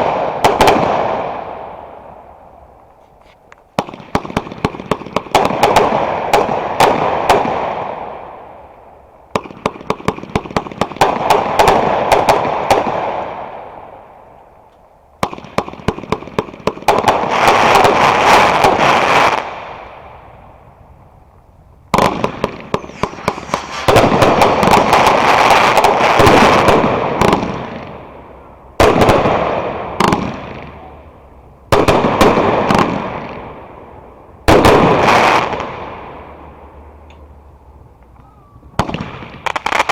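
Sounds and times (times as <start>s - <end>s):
fireworks bangs and crackling: 0.0s - 3.0s, 3.6s - 14.0s, 15.2s - 20.9s, 21.9s - 36.5s, 38.7s - 39.9s.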